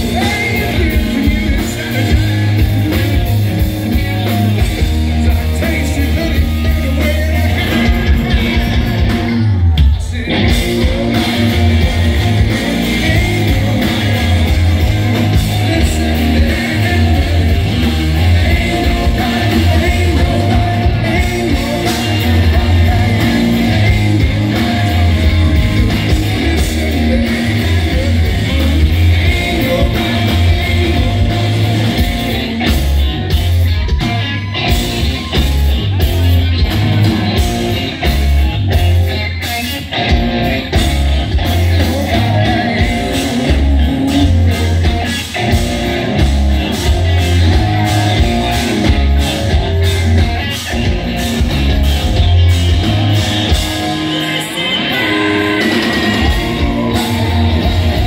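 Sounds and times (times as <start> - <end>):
bass guitar: 0.0 - 58.0
drums: 0.0 - 58.0
electric guitars: 0.0 - 58.0.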